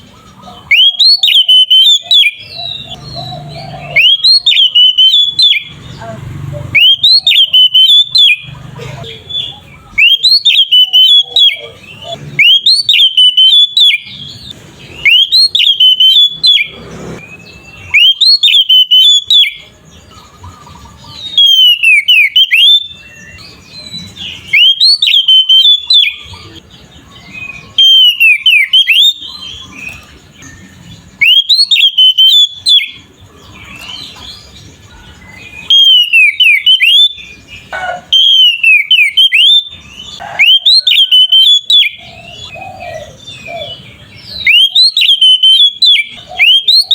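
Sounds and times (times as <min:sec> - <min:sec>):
bird singing whistled phrases: 0:00.0 - 0:34.7, 0:35.3 - 0:46.9
quiet bird twittering: 0:00.0 - 0:46.9.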